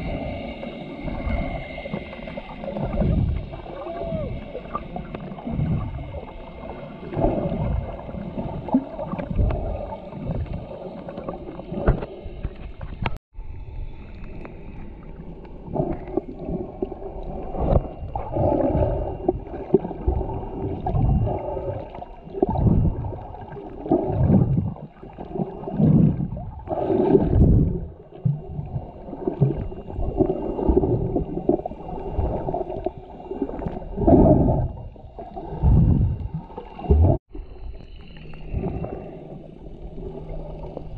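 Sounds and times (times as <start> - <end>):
underwater water swishing: 0.0 - 40.9.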